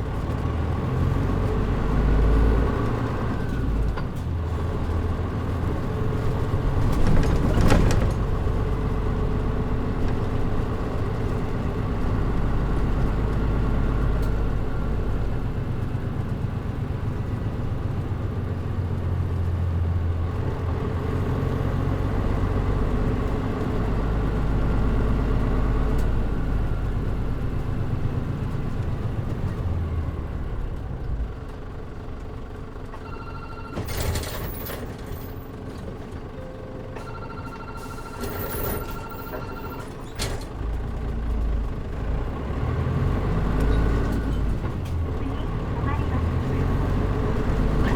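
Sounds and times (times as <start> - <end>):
bus diesel engine droning: 0.0 - 47.9.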